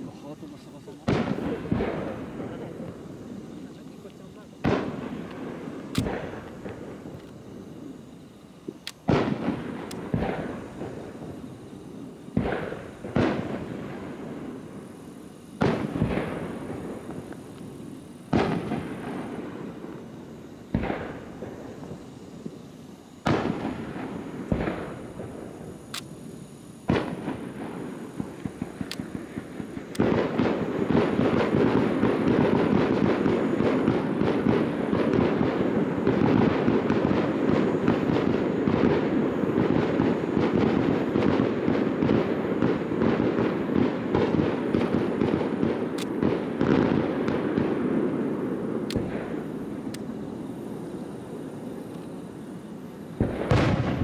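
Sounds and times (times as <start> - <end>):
fireworks bangs and crackle: 0.0 - 54.0.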